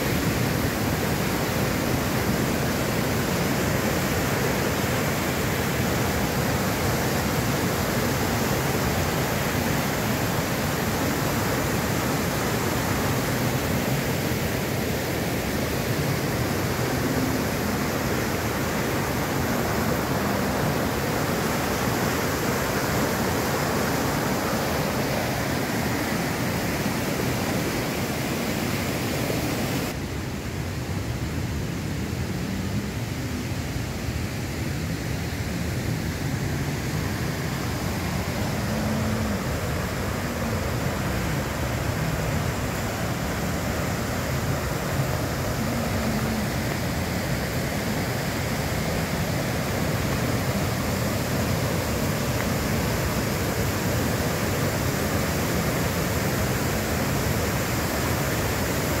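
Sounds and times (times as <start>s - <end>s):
river torrent rushing: 0.0s - 59.0s.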